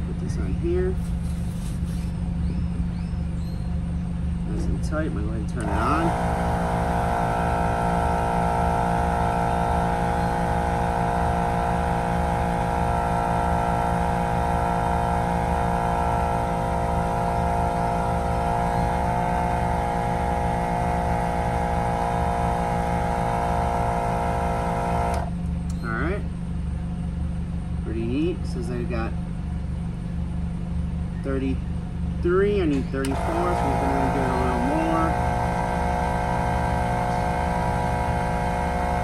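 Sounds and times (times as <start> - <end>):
air compressor running: 0.0 - 2.9, 3.7 - 28.6, 29.3 - 39.0.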